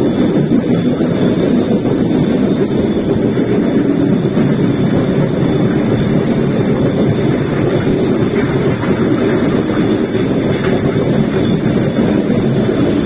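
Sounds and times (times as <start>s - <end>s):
rail vehicle wheels rumbling: 0.0s - 13.0s.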